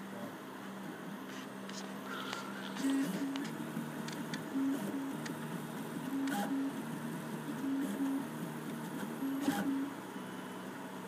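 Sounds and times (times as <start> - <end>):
stepper motors humming: 1.4 - 10.7.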